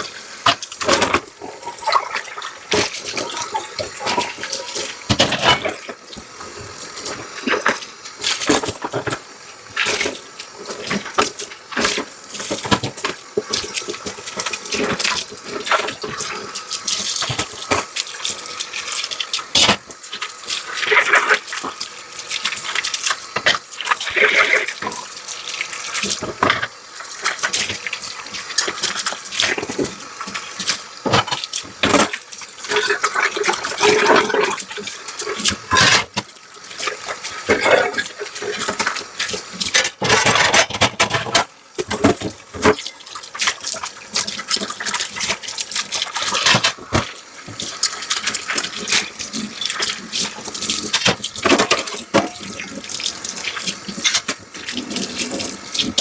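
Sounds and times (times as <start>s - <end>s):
tap water running into sink: 0.0s - 56.0s.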